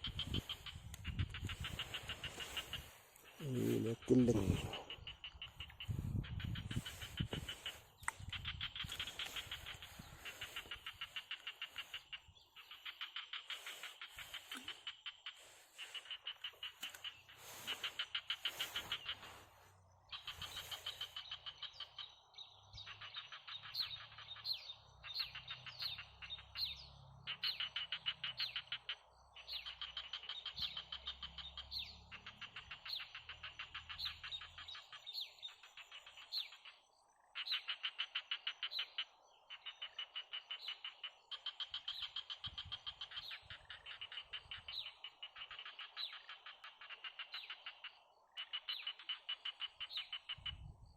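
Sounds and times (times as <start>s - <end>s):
frogs calling: 0.0s - 50.9s.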